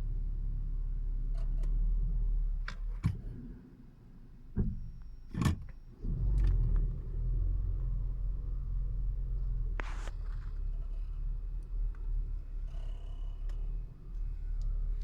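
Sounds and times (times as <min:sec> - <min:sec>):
car cabin engine rumble: 0:02.3 - 0:15.0.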